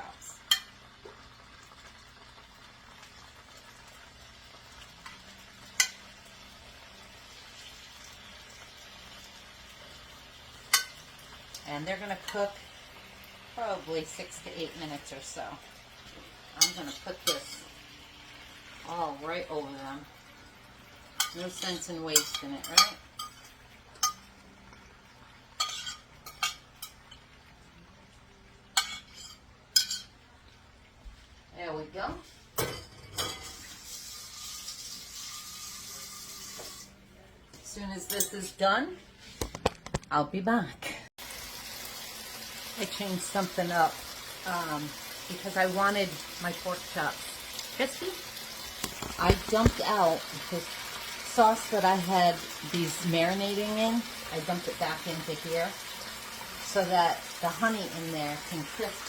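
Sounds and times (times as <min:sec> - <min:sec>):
pork sizzling in a pan: 0:00.0 - 0:31.6, 0:32.4 - 0:37.0, 0:41.2 - 0:59.0.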